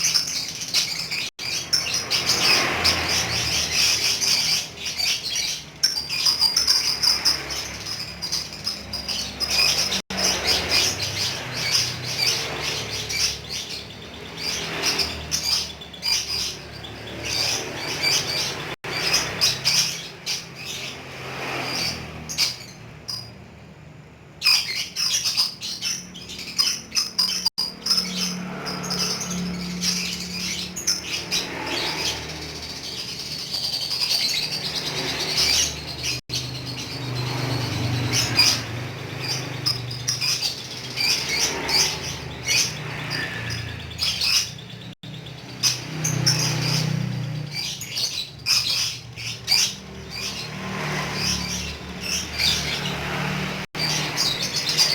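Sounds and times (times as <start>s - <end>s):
bird chattering high-pitched chirps: 0.0s - 23.4s, 24.3s - 54.9s.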